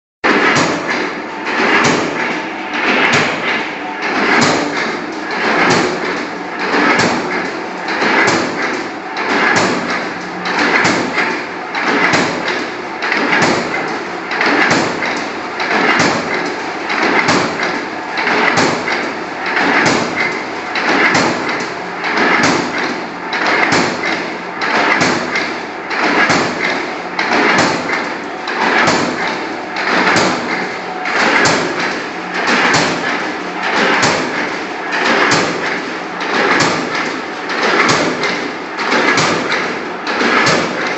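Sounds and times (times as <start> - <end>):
power press metallic clacks: 0.2 - 40.9.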